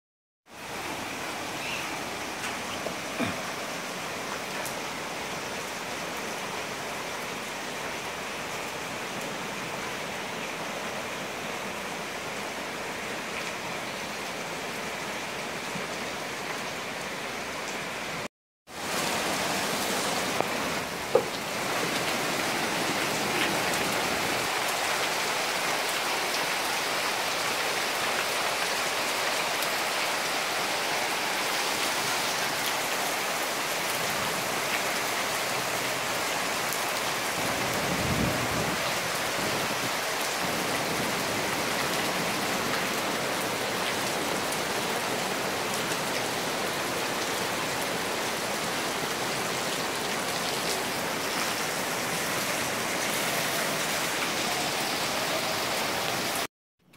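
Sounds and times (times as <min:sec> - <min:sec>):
heavy rain on leaves: 0:00.4 - 0:56.5.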